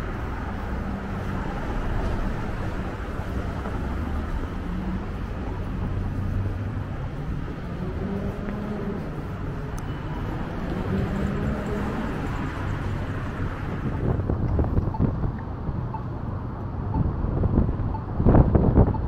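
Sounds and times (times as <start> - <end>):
cars passing: 0.0 - 19.0
low engine hum: 0.0 - 19.0.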